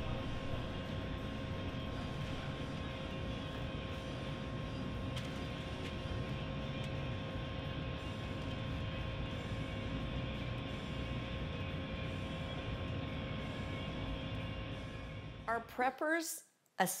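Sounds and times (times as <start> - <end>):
small motor or fan humming: 0.0 - 15.4.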